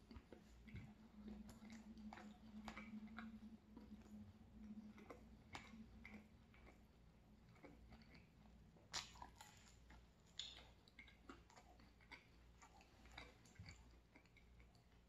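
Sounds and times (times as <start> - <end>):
faint chewing mouth clicks: 0.0 - 15.0.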